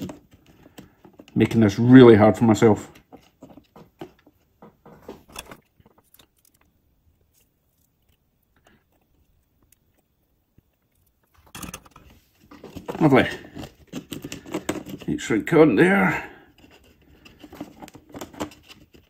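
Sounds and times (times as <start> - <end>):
small clicks and rustles of handling: 0.0 - 2.0, 2.9 - 15.4, 16.5 - 19.0.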